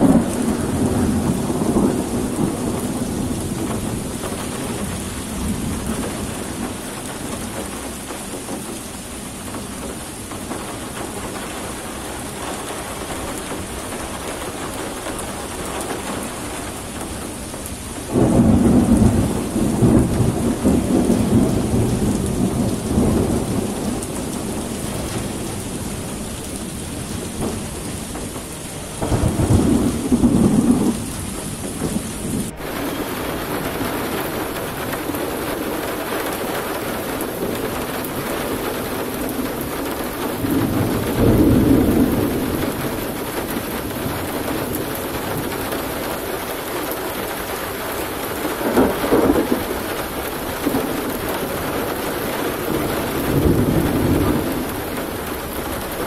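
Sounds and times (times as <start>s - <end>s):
loud thunderclap: 0.0s - 8.7s, 18.0s - 47.3s, 47.9s - 56.0s
heavy rain: 0.0s - 56.0s
thunder rumbling: 0.0s - 56.0s.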